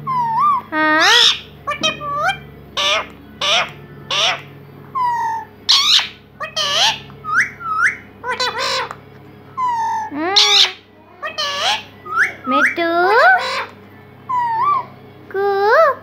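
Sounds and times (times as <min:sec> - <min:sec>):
parakeet squawks and chirps: 0:00.0 - 0:15.0.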